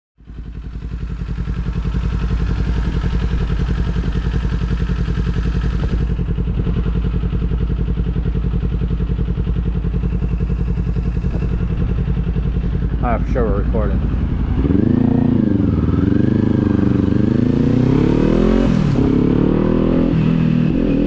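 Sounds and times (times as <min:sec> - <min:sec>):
motorcycle engine idling: 0:00.2 - 0:19.5.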